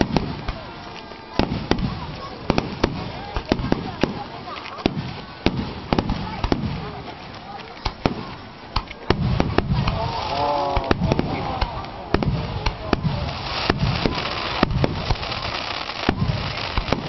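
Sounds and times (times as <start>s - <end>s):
fireworks bursting with sharp bangs: 0.0s - 17.0s.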